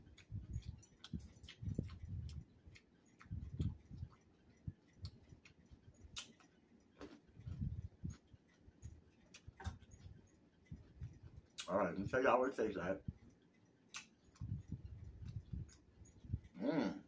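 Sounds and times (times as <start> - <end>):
person chewing food: 0.0 - 11.7, 13.8 - 16.7.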